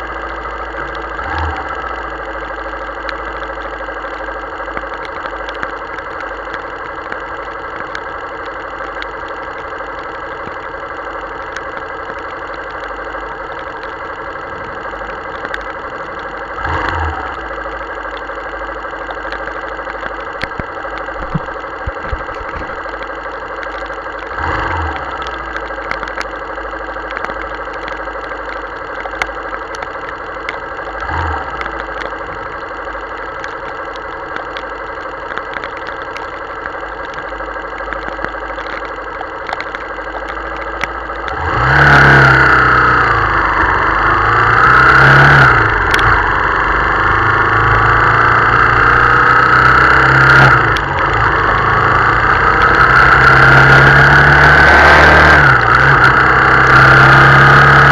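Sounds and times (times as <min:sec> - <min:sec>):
motorcycle engine idling: 0:00.0 - 0:41.6, 0:42.4 - 0:54.3
small rain ticks: 0:00.0 - 0:57.9.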